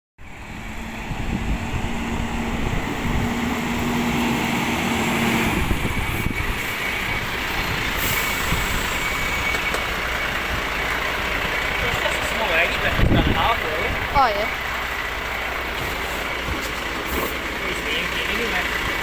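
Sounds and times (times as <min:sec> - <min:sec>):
garbage truck engine running: 0:00.2 - 0:19.0.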